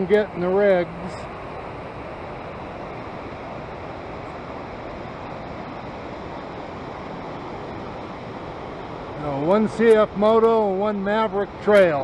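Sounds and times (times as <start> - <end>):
creek and waterfall rushing: 0.0 - 12.0.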